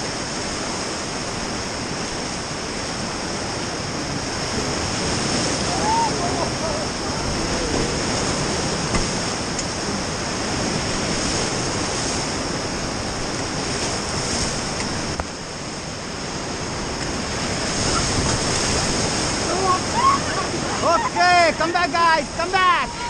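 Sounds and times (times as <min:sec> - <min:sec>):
whitewater rapids rushing: 0:00.0 - 0:23.0.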